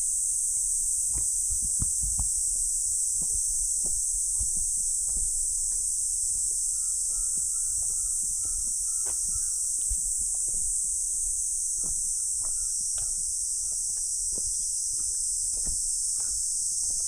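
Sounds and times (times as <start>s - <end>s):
insects chorus: 0.0s - 17.0s
footsteps crunching on path: 0.5s - 17.0s.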